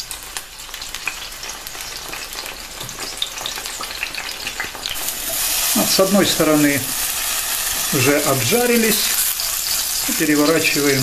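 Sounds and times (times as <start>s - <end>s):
eggplant sizzling in frying pan: 0.0s - 11.0s.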